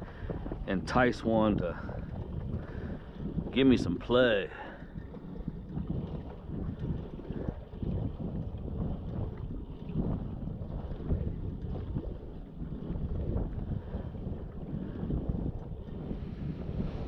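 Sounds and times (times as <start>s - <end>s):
water lapping along hull: 0.0s - 17.0s
wind buffeting microphone: 0.0s - 17.0s.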